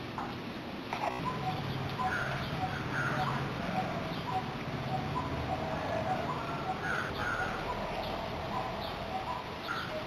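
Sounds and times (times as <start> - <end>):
background hiss: 0.0 - 10.0
birds chirping: 0.0 - 10.0.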